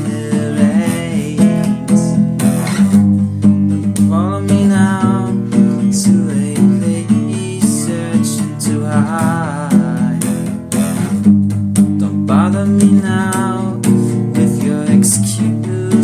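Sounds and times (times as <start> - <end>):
person singing: 0.0 - 3.0, 4.0 - 10.5, 12.0 - 16.0
strummed acoustic guitar: 0.0 - 16.0.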